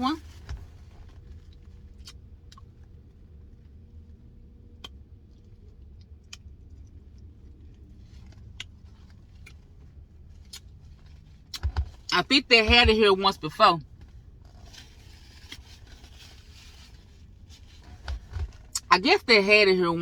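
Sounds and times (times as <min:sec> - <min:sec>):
car engine hum in cabin: 0:00.0 - 0:20.0.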